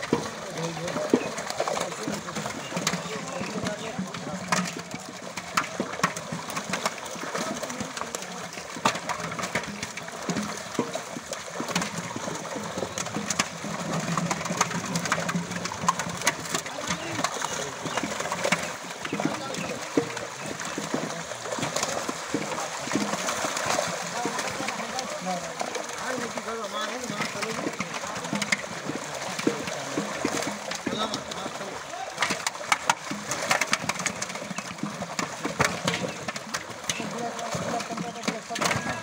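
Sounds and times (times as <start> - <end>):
fish thrashing and splashing: 0.0 - 39.0.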